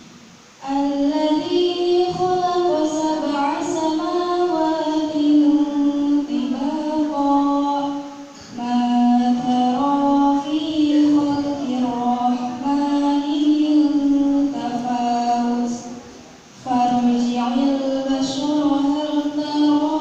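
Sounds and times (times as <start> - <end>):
woman singing into a microphone: 0.6 - 15.9, 16.6 - 20.0.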